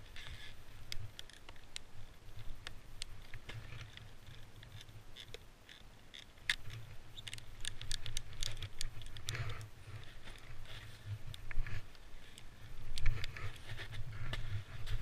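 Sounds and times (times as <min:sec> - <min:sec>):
small sharp clicks and rattles: 0:00.0 - 0:15.0.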